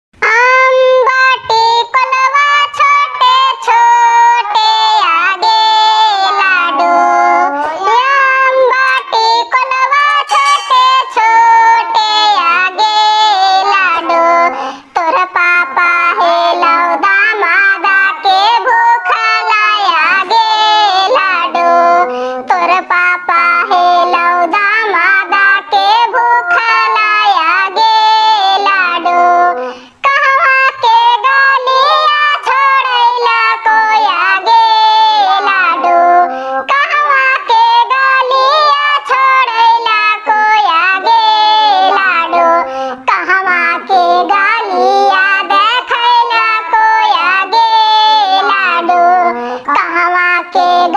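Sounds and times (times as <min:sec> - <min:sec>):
high-pitched cartoon voice singing: 0:00.2 - 0:50.9.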